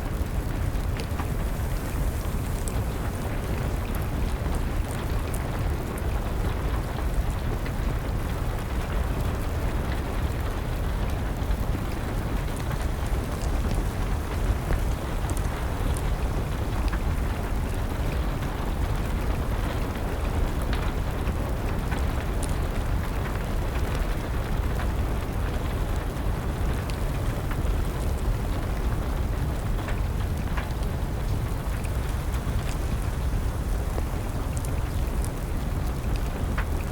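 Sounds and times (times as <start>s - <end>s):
steady rain: 0.0s - 36.9s
wood fire crackling and popping: 0.0s - 36.9s.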